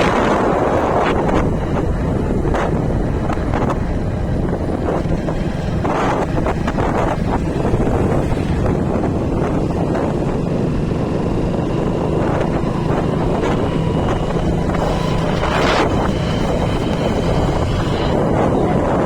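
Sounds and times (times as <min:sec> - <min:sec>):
road rumble: 0:00.0 - 0:19.0
vehicle engine hum: 0:00.0 - 0:19.0
wind buffeting microphone: 0:00.0 - 0:19.0.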